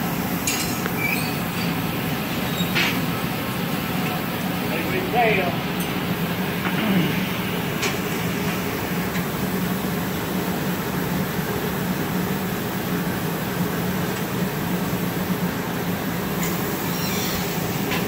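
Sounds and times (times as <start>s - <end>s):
furnace blowers humming and hissing: 0.0s - 18.0s.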